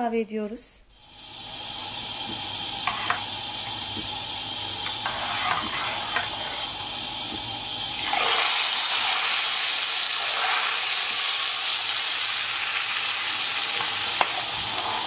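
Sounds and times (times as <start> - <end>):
hot oil sizzling: 1.0 - 15.0.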